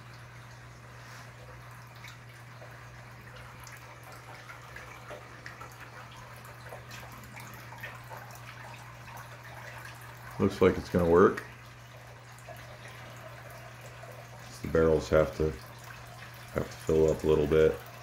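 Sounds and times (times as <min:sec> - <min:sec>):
water trickling into aquarium: 0:00.0 - 0:18.0.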